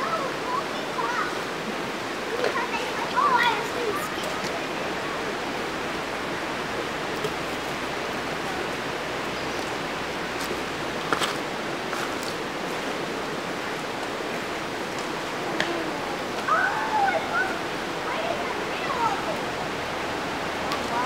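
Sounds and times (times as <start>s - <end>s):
creek rushing over stones: 0.0s - 21.0s.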